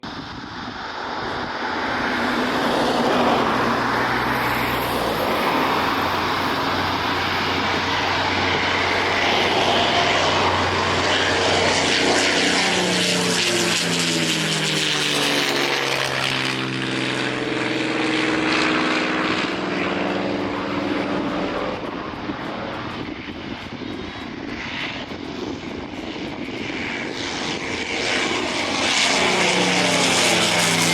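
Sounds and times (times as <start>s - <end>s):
propeller noise: 0.0s - 30.9s
propeller plane engines at takeoff: 0.0s - 30.9s.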